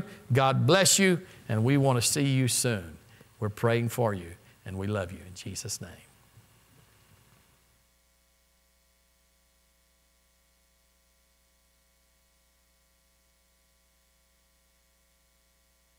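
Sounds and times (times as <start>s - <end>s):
faint hum and hiss: 0.0s - 15.9s.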